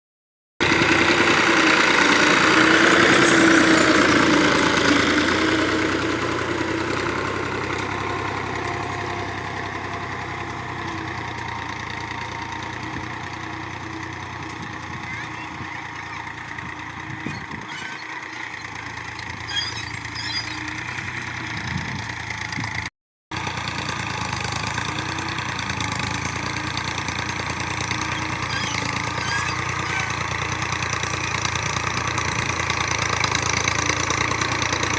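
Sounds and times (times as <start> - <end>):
tractor diesel engine running: 0.6 - 34.9.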